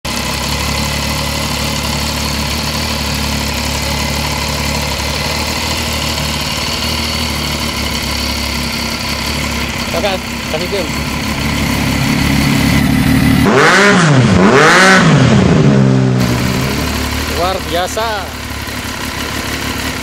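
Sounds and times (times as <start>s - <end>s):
motorcycle engine idling: 0.1s - 20.0s.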